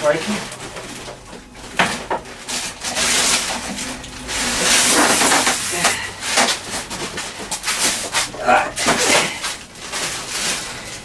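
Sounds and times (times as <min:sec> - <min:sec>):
polystyrene packing scraping: 0:00.4 - 0:11.0.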